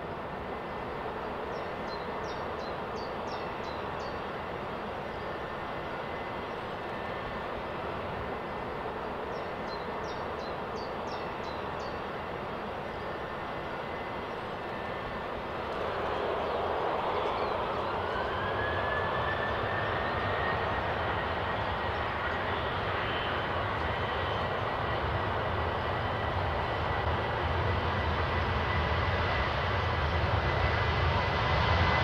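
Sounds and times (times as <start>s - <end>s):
jet airliner engine noise: 0.0s - 32.0s.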